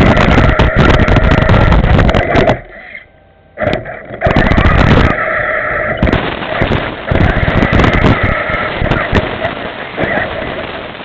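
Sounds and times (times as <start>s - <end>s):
gear and chassis rattle: 0.0s - 11.0s.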